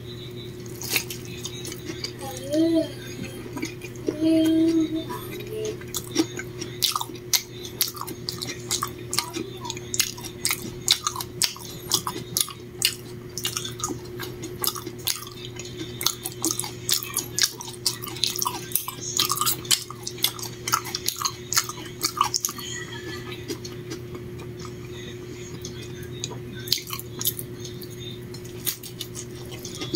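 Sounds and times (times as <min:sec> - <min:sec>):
steady low hum: 0:00.0 - 0:29.9
person chewing close to microphone: 0:00.6 - 0:29.9.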